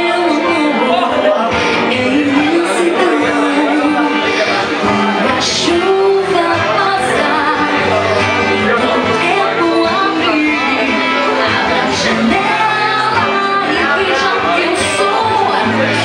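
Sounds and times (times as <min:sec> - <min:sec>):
acoustic guitars playing: 0:00.0 - 0:16.0
woman singing into microphone: 0:00.0 - 0:16.0.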